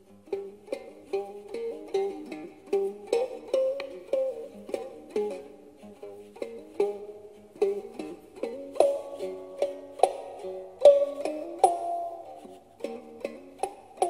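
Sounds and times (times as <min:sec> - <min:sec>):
plucked stick zither melody: 0:00.0 - 0:14.0.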